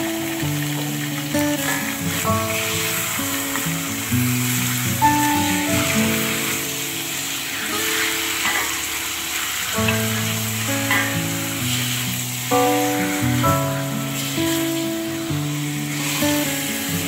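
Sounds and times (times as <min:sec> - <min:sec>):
background music: 0:00.0 - 0:17.0
food sizzling in hot oil: 0:00.0 - 0:17.0.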